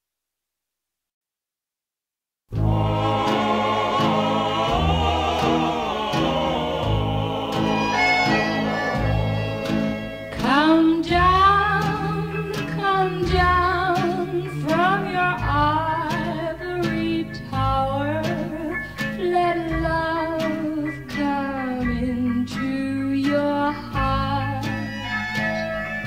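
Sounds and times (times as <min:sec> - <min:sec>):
pop ballad with orchestra: 0:02.6 - 0:26.0.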